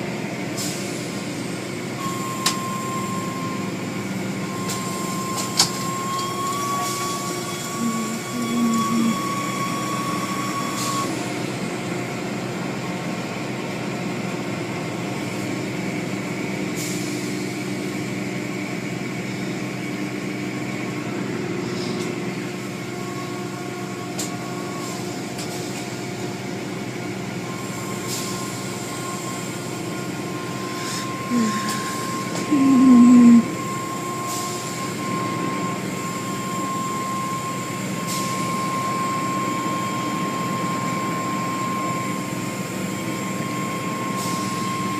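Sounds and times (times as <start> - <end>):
car wash machinery humming: 0.0 - 44.9.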